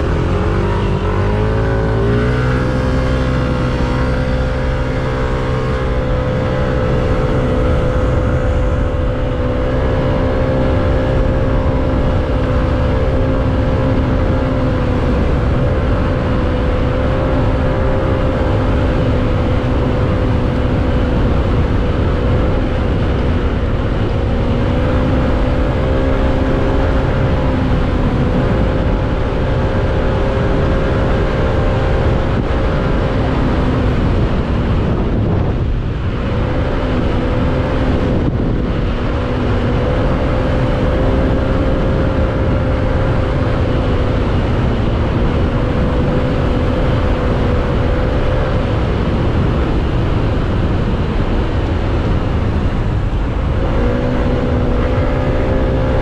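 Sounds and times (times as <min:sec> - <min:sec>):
motorcycle engine hum: 0:00.0 - 0:56.0
wind rush on microphone: 0:00.0 - 0:56.0.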